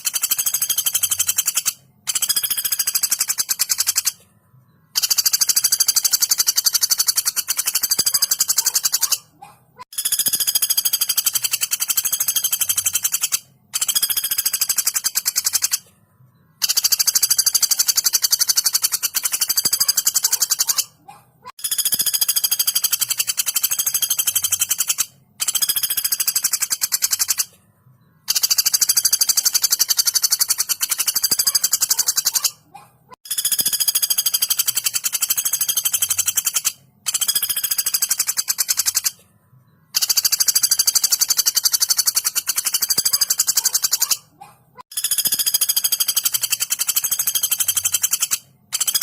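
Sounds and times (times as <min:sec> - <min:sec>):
woodpecker rattling trills: 0:00.0 - 0:04.2, 0:04.9 - 0:15.9, 0:16.5 - 0:27.6, 0:28.2 - 0:39.3, 0:39.9 - 0:49.0.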